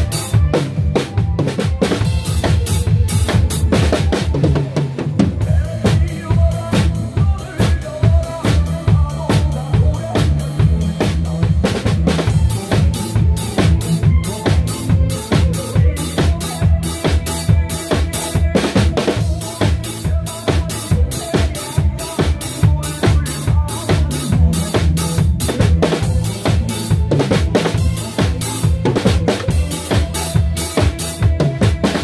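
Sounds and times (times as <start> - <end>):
backing track with bass line: 0.0 - 32.0
drum kit playing steady beat: 0.0 - 32.0.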